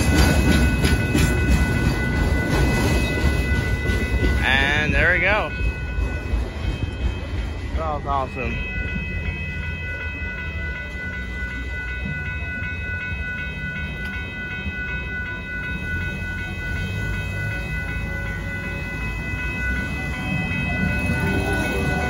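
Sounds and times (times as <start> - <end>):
freight train rumble: 0.0 - 22.0
railroad crossing bell ringing: 0.0 - 22.0.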